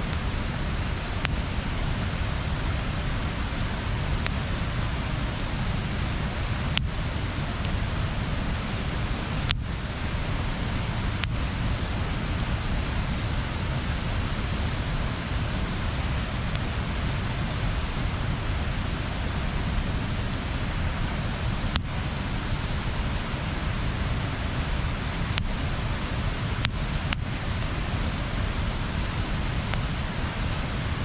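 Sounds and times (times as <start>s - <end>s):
bonfire hissing and rumbling: 0.0s - 31.0s
fire crackles: 0.0s - 31.0s.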